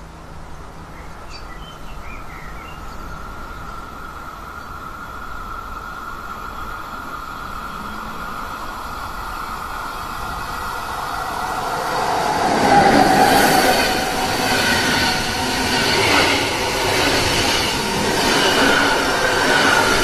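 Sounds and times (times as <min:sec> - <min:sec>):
high whine of train: 0:00.0 - 0:20.0
passenger train passing: 0:02.2 - 0:20.0.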